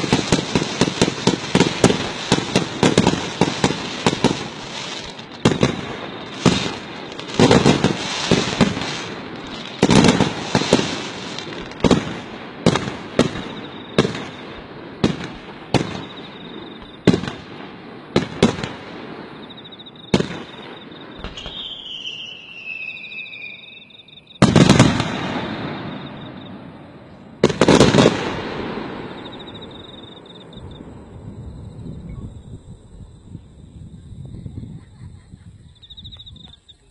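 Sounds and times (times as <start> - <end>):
falling firework whistle: 0.0 - 17.4, 18.4 - 33.4
fireworks crackling: 0.0 - 32.0
fireworks booming: 0.0 - 34.9.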